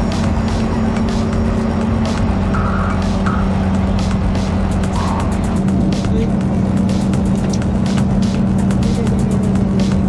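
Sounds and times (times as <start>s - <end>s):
background music with quick beat: 0.0s - 10.0s
boat engine drone: 0.0s - 10.0s.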